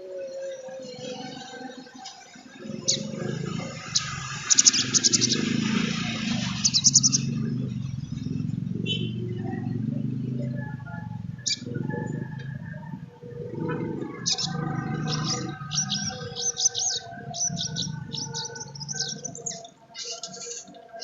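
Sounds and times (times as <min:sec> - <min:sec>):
sunbird chips and trills: 0:02.5 - 0:21.0.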